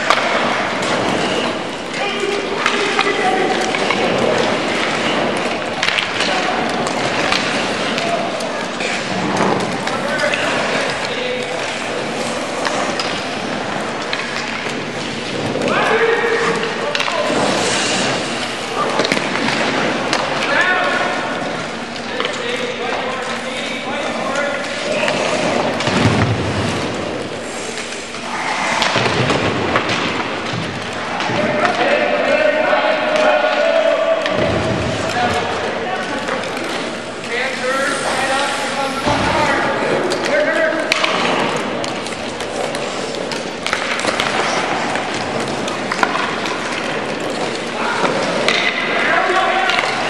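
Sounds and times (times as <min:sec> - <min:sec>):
sledges and sticks scraping on ice: 0:00.0 - 0:21.2, 0:22.2 - 0:29.2, 0:34.9 - 0:50.0
crowd and rink noise: 0:00.0 - 0:50.0.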